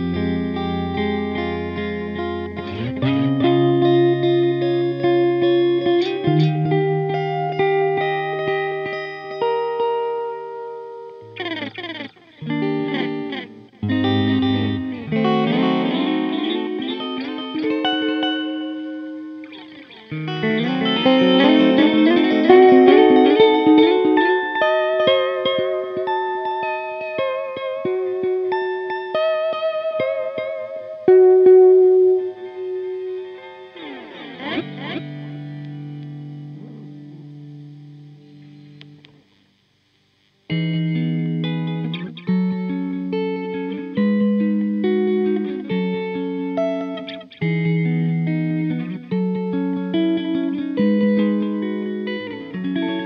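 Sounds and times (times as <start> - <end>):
clean electric guitar with echo: 0.0 - 53.0.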